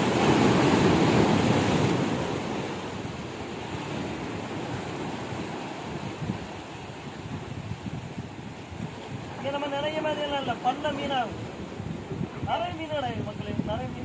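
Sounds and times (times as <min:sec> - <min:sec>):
sea waves breaking on concrete: 0:00.0 - 0:12.9.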